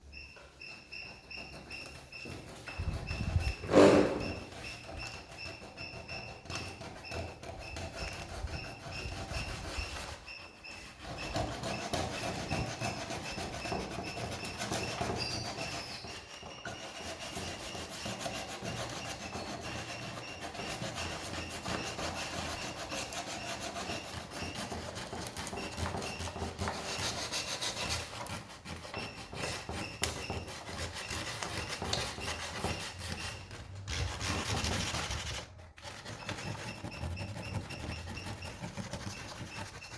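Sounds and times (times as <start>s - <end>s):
sandpaper rubbing on wood: 1.1s - 39.9s.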